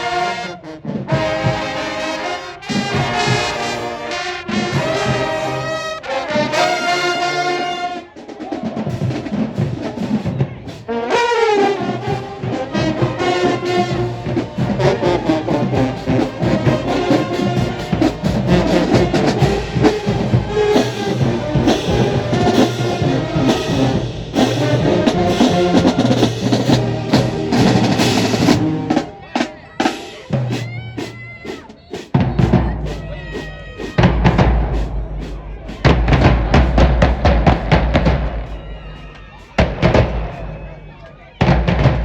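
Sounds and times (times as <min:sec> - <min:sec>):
marching band brass: 0:00.0 - 0:42.0
pounding drums: 0:01.0 - 0:42.0.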